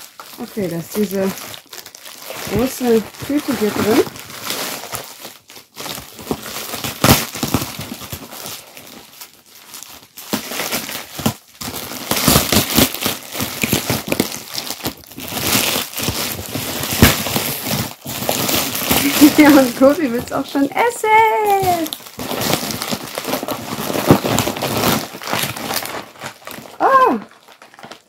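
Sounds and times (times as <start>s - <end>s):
foil cooler bag crinkling: 0.0s - 28.0s.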